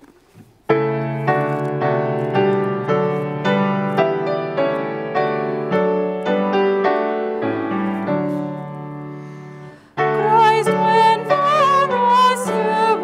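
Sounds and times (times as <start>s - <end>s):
piano playing slow chords: 0.7s - 13.0s.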